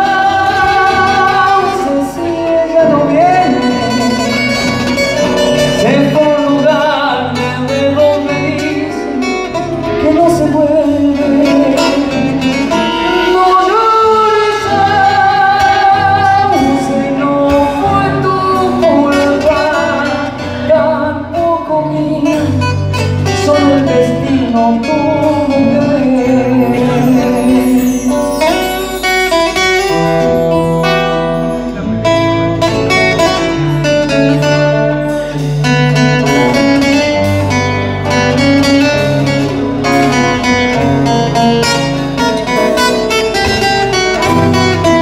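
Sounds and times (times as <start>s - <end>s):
live band playing folk music: 0.0s - 45.0s.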